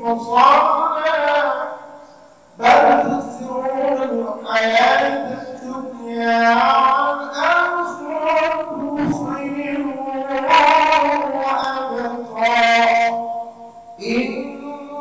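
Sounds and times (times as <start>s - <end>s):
person chanting melodically: 0.0s - 15.0s.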